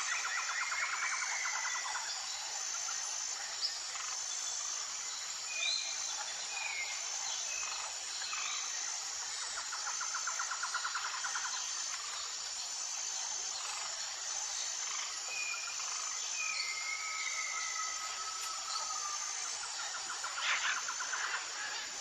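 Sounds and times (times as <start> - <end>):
high insect chorus: 0.0 - 22.0.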